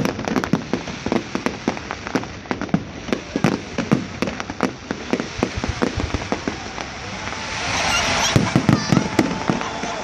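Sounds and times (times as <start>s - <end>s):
fireworks cracks and pops: 0.0s - 10.0s.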